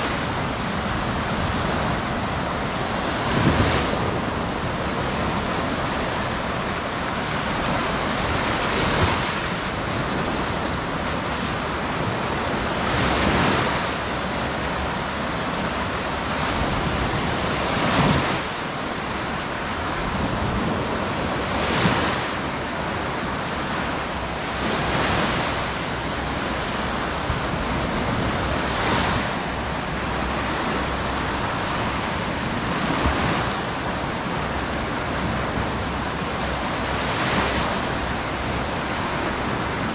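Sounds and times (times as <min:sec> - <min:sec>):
surf wash: 0:00.0 - 0:39.9
waves breaking on shore: 0:00.0 - 0:39.9.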